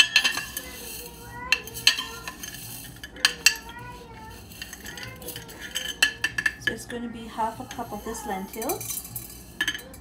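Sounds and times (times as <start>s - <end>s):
lentils clinking in glass jar: 0.0s - 10.0s.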